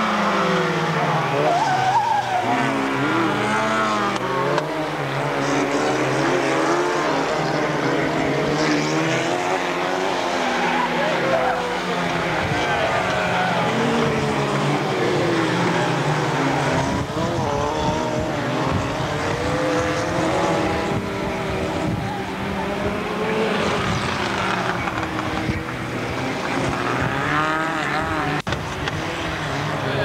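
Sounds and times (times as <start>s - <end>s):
racing car engines revving: 0.0s - 30.0s.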